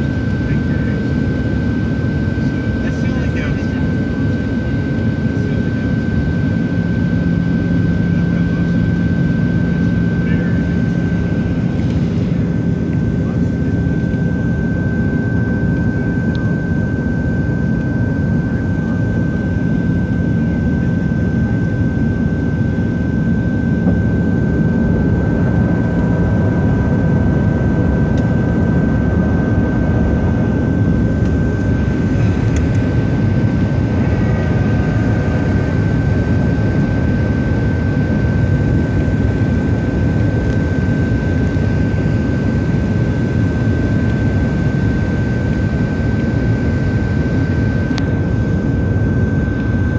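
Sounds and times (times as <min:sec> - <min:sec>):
airplane cabin roar: 0:00.0 - 0:49.9
high whine: 0:05.3 - 0:49.9.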